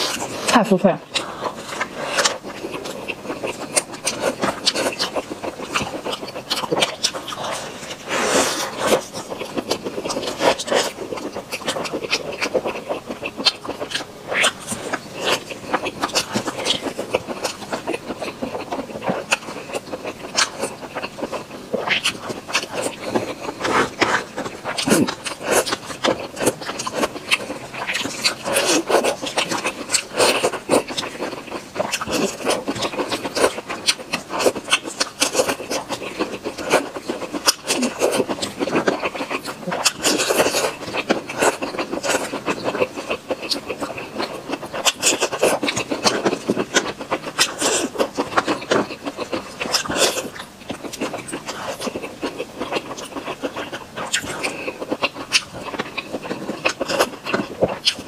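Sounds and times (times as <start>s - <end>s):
wet mouth sounds: 0.0s - 58.0s.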